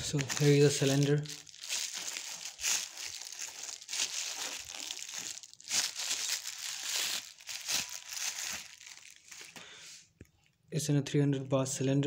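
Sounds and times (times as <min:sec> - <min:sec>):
plastic wrap crinkling: 0:00.0 - 0:09.7.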